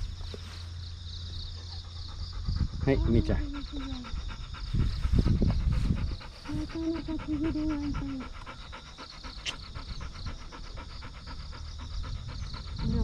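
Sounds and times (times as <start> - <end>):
low rumbling noise: 0.0 - 13.0
dog panting: 1.4 - 13.0.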